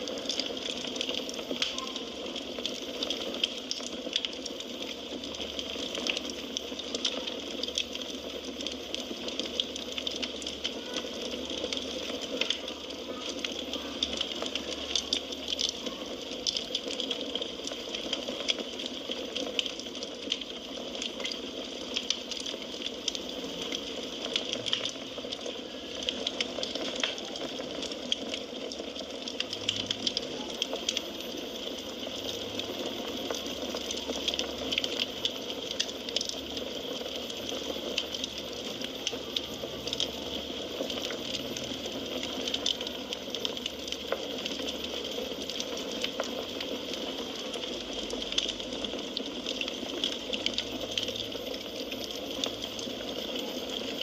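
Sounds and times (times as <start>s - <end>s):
firewood crackling and popping: 0.0s - 54.0s.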